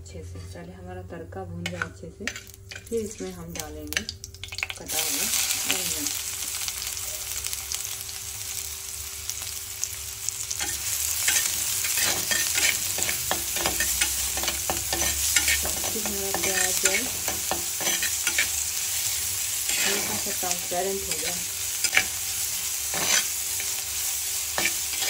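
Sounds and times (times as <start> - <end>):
onion sizzling in hot oil: 1.7 - 25.0.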